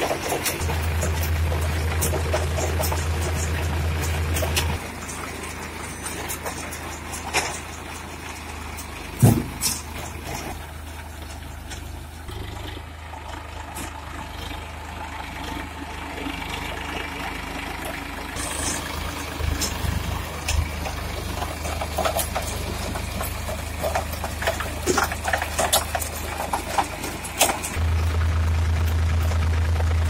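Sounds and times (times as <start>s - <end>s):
baler chains clicking and rattling: 0.0s - 14.6s, 16.2s - 30.0s
tractor diesel engine running: 0.0s - 30.0s.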